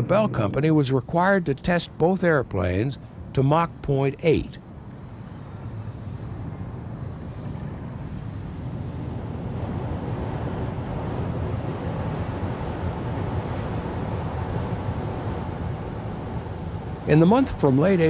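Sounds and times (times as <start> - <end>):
aircraft engine drone: 0.0 - 18.0
faint high whine: 0.0 - 18.0.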